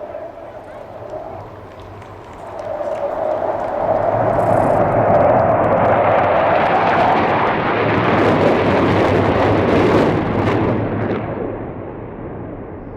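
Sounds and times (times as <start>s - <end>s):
jet aircraft roaring past: 0.0s - 12.9s.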